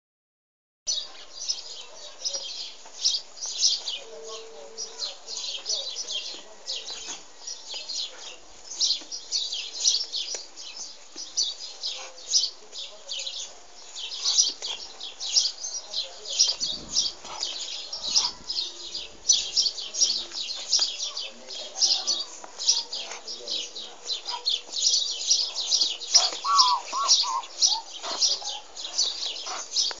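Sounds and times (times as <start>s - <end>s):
small birds chirping and twittering: 0.9s - 30.0s.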